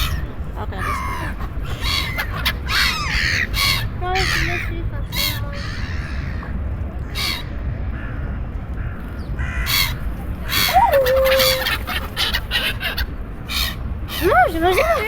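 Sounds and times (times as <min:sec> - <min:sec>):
birds giving harsh calls: 0:00.0 - 0:08.2, 0:08.8 - 0:15.0
low steady rumble: 0:00.0 - 0:15.0.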